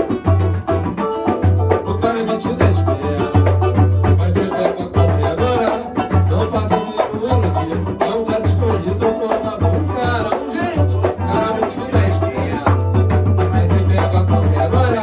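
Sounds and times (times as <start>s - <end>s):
acoustic guitar and cavaquinhos strumming: 0.0s - 15.0s
hand drum deep beat: 0.0s - 15.0s
man singing: 1.7s - 15.0s.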